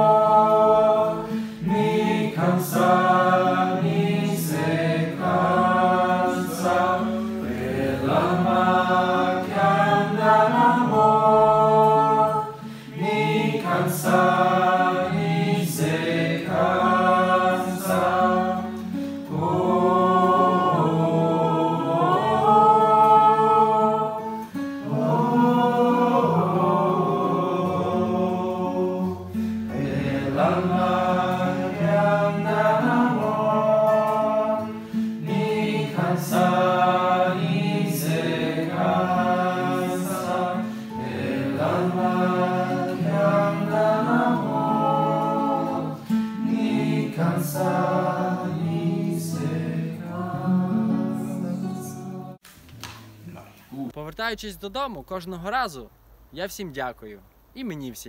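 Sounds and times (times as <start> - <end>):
group of voices singing: 0.0 - 52.4
guitar accompaniment: 0.0 - 53.7.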